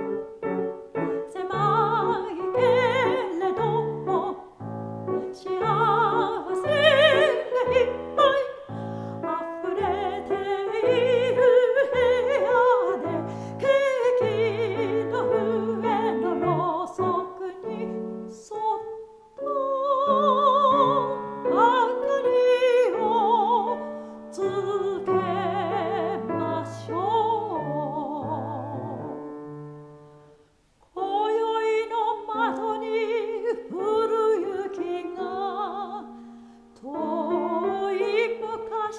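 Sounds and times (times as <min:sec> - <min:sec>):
soprano singing with vibrato: 0:00.0 - 0:30.1, 0:30.8 - 0:38.9
piano accompaniment: 0:00.0 - 0:30.4, 0:31.1 - 0:38.9.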